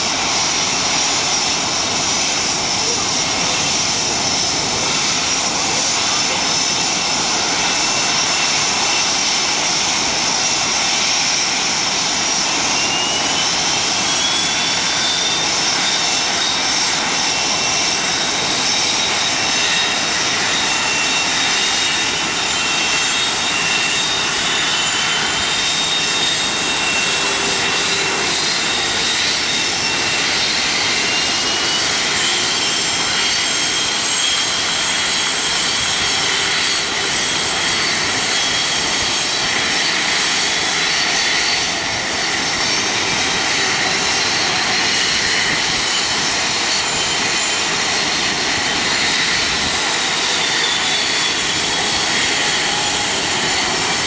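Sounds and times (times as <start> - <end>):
jet engines spooling up: 0.0 - 54.0
jet engines whining: 0.0 - 54.0.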